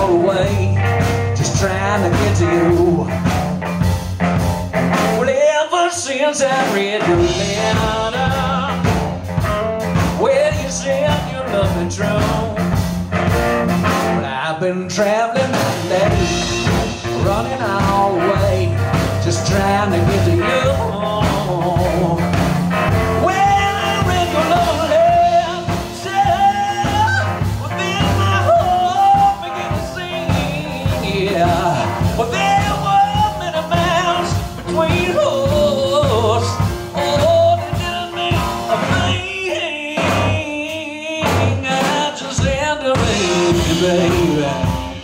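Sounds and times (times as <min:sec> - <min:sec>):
blues band playing swing shuffle: 0:00.0 - 0:45.0
wavering lead guitar line: 0:00.0 - 0:45.0.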